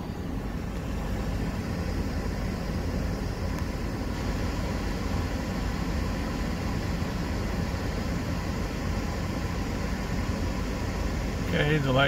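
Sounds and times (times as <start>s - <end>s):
air blowing from vents: 0.0s - 12.0s
car engine idling hum: 0.0s - 12.0s.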